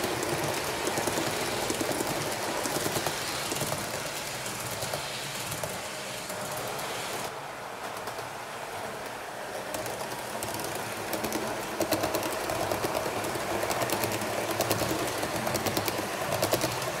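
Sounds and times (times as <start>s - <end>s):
model train wheels clicking: 0.0s - 8.4s, 9.0s - 17.0s.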